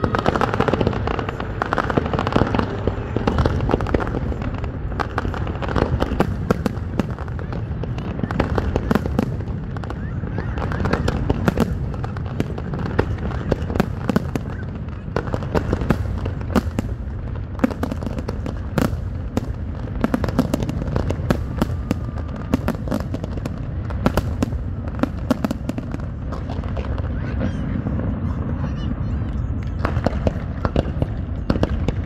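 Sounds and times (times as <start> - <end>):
continuous low rumble: 0.0 - 32.0
firework bursts and bangs: 0.0 - 32.0.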